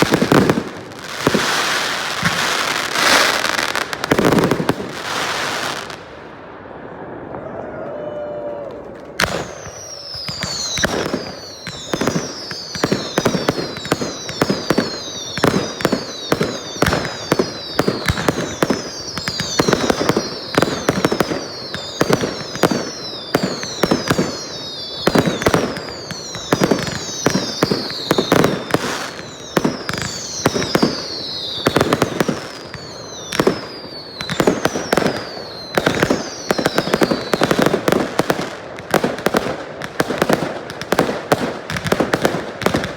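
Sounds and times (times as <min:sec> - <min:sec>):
fireworks whistles: 0:00.0 - 0:06.0, 0:09.2 - 0:39.4
fireworks bangs: 0:00.0 - 0:42.9.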